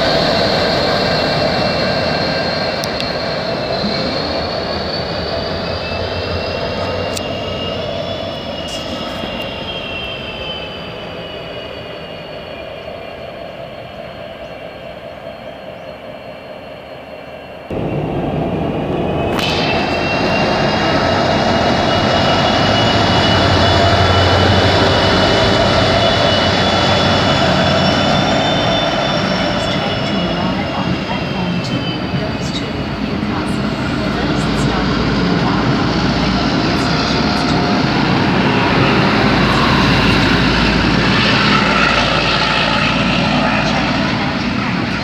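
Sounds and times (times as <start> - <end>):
diesel locomotive engine: 0.0 - 45.0
high whine: 0.0 - 45.0.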